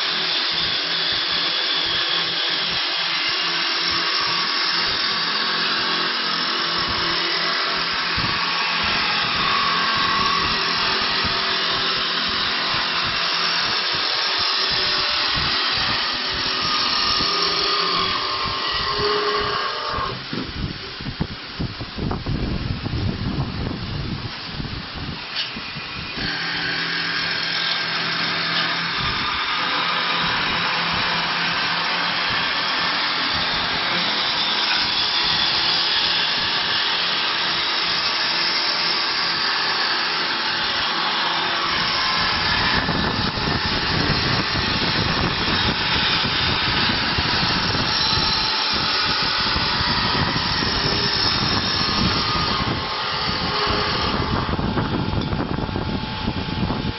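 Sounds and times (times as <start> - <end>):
wood lathe cutting: 0.0 - 21.6, 25.0 - 56.9.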